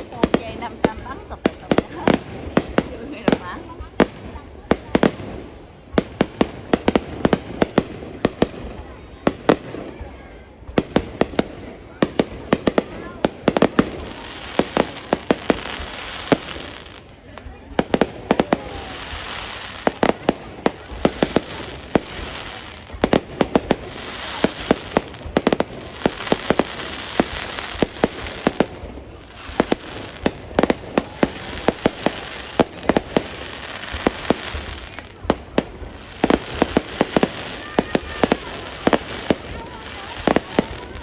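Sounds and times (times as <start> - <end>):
fireworks bangs: 0.0 - 41.0
fireworks crackling: 0.0 - 41.0.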